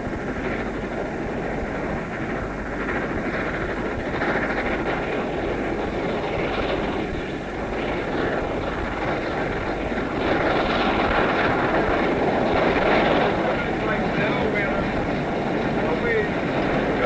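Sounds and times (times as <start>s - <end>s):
steam train running: 0.0s - 17.0s.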